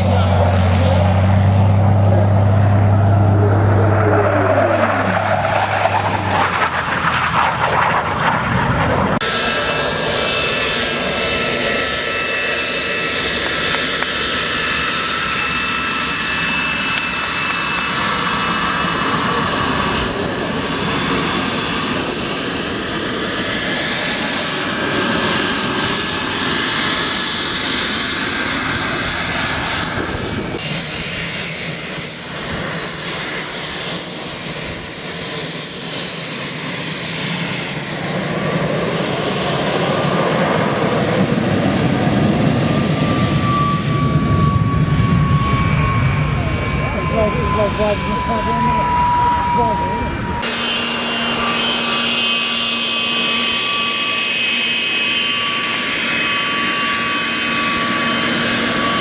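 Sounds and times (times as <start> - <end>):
jet engine rushing and whining: 0.0 - 59.0
jet flying past: 0.0 - 59.0.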